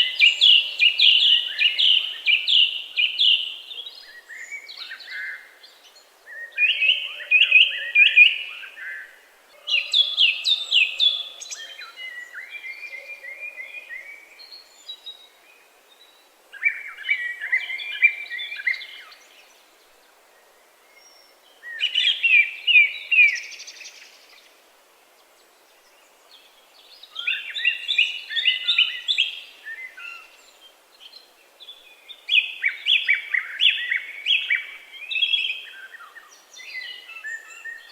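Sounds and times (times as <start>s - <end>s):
songbird singing: 0.0s - 37.9s.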